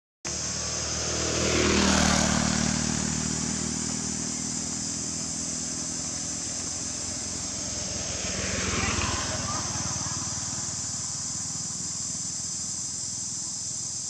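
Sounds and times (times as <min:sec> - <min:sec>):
vehicle driving past: 0:00.3 - 0:14.0.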